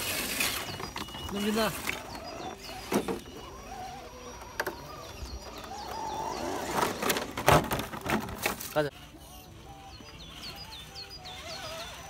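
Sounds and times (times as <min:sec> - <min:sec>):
birds chirping: 0:00.0 - 0:12.0
small electric motor whining: 0:00.0 - 0:12.0.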